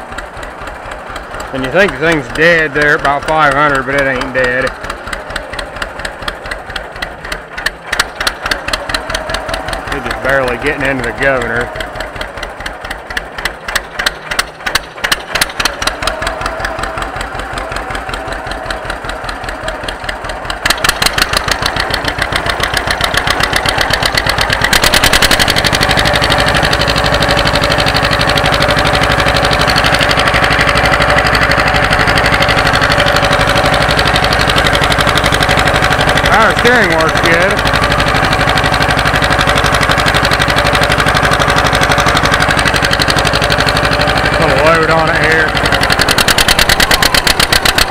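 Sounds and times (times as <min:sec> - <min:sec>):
tractor engine idling and revving: 0:00.0 - 0:47.9.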